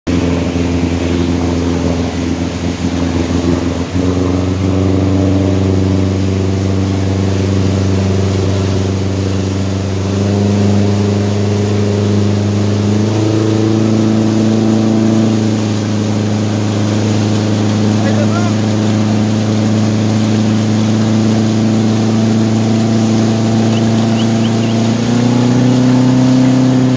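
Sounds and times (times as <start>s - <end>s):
motorboat engine running: 0.1s - 26.9s
rushing water of wake: 0.1s - 26.9s.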